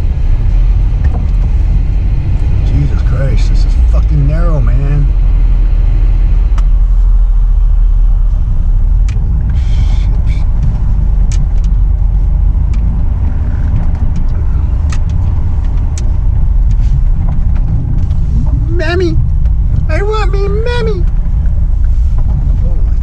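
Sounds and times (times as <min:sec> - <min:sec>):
truck engine rumbling: 0:00.0 - 0:23.0.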